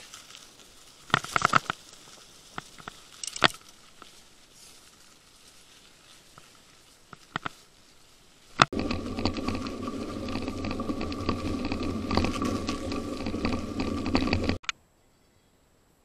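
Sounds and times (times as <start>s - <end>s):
bike tyres crackling on snow: 0.0s - 14.6s
quiet bike riding noise: 0.0s - 14.7s.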